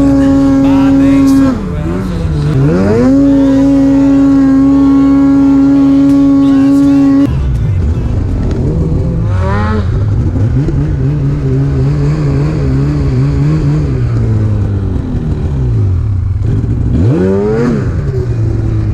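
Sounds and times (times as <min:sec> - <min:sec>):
snowmobile engine revving: 0:00.0 - 0:18.9.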